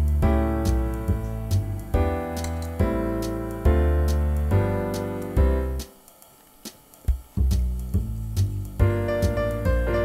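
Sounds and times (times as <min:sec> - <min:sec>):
instrumental music with a beat: 0:00.0 - 0:10.0.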